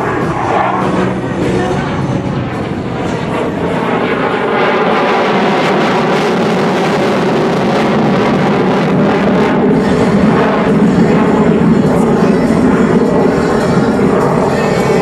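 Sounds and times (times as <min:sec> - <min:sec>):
jet engine in afterburner: 0:00.0 - 0:15.0.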